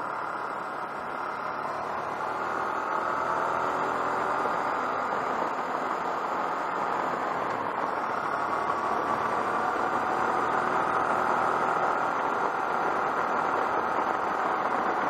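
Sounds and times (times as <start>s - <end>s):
motorcycle engine and tyres: 0.0s - 15.0s.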